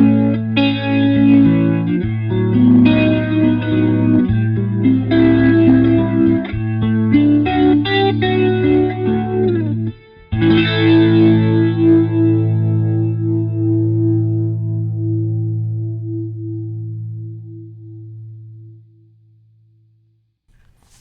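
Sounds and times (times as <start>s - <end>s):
electric guitar with rotary speaker effect: 0.0s - 18.8s.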